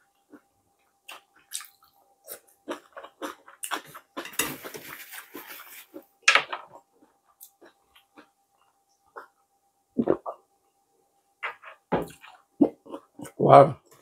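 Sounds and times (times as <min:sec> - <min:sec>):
person chewing food: 0:00.0 - 0:09.4, 0:11.4 - 0:13.4.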